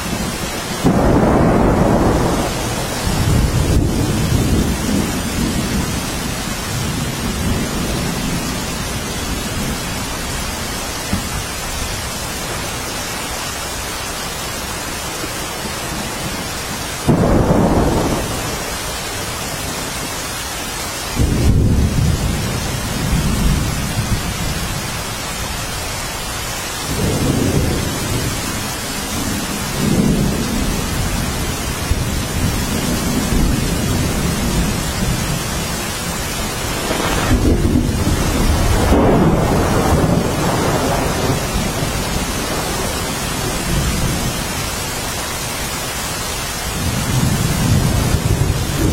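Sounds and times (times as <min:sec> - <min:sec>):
thunder rumbling: 0:00.0 - 0:12.9, 0:14.4 - 0:20.3, 0:21.0 - 0:44.8, 0:46.6 - 0:48.9
steady rain falling: 0:00.0 - 0:48.9.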